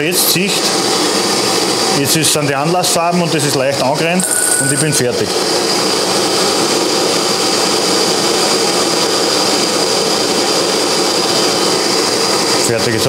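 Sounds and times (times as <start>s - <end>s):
gas burner flame roaring: 0.0s - 4.2s, 5.2s - 13.0s.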